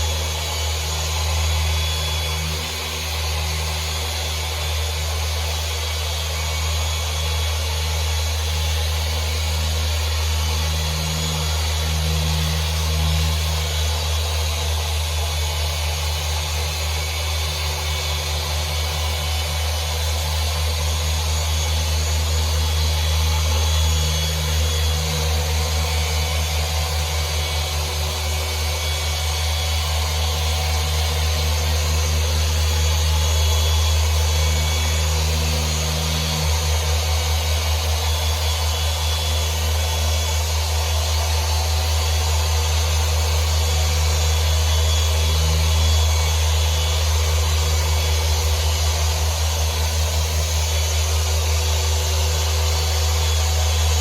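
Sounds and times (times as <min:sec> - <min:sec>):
machine polisher humming: 0:00.0 - 0:54.0.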